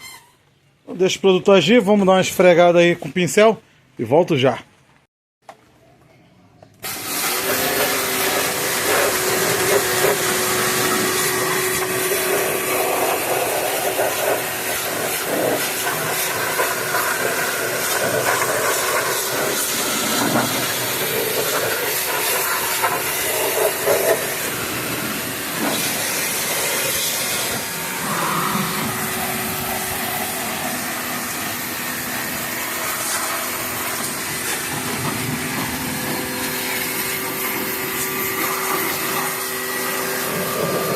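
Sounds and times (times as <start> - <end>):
pressure washer spraying: 6.8 - 40.9.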